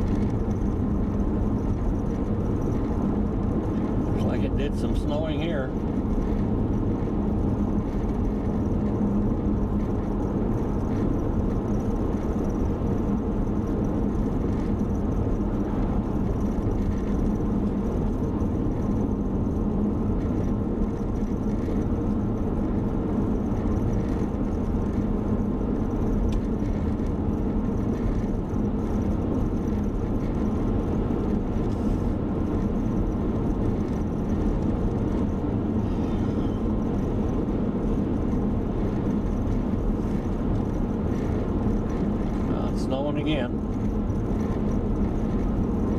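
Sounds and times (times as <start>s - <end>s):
car engine and tyre hum: 0.0s - 45.9s.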